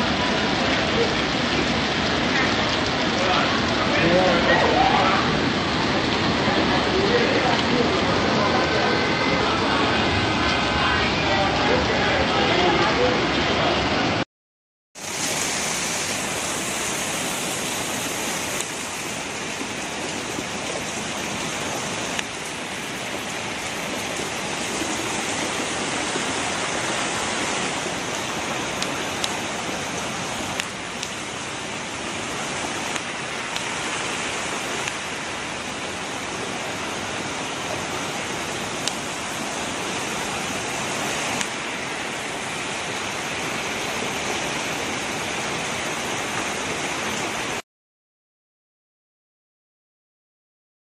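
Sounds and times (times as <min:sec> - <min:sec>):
floodwater rushing: 0:00.0 - 0:14.2, 0:15.0 - 0:47.6.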